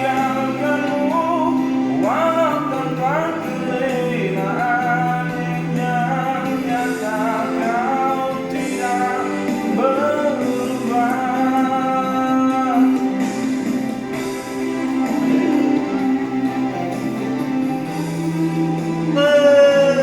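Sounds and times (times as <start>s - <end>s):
instrumental backing: 0.0s - 20.0s
person singing with vibrato: 0.0s - 20.0s.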